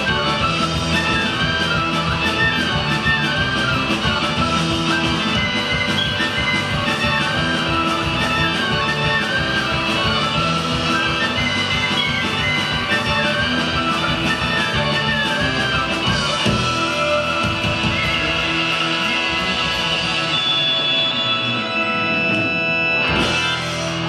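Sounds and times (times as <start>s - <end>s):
band playing instrumental tune: 0.0s - 24.0s
guitar accompaniment: 0.0s - 24.0s.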